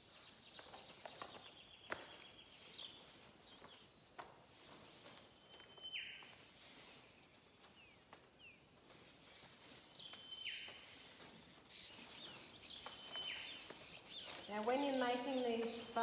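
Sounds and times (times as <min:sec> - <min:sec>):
bird chirps: 0:00.0 - 0:04.0, 0:04.8 - 0:16.0.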